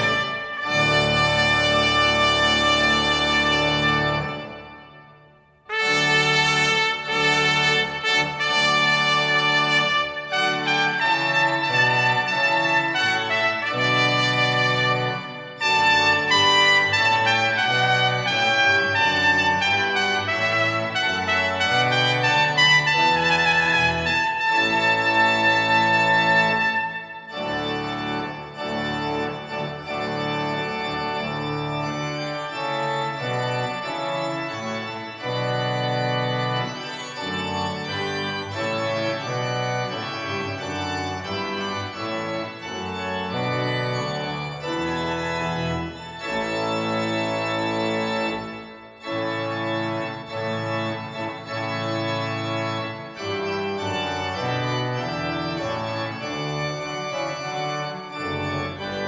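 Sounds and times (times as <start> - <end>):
organ-like keyboard chords: 0.0 - 59.0.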